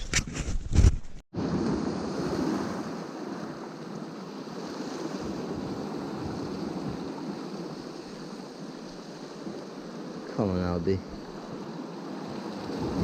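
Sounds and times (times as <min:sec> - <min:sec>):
small waves washing onto shore: 0:01.4 - 0:13.0.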